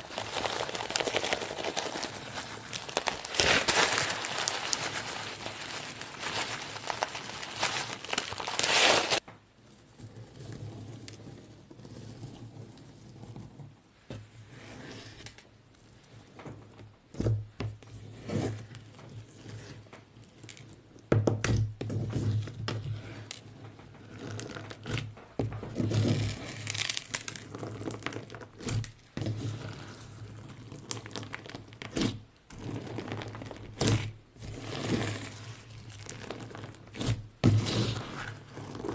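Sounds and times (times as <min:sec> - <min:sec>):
slime squishing by hand: 0:00.0 - 0:13.6, 0:15.1 - 0:38.9.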